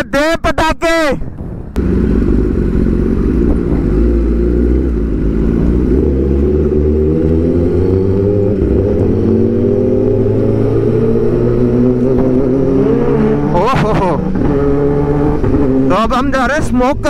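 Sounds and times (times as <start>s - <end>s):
motorcycle engine running: 1.8s - 17.0s.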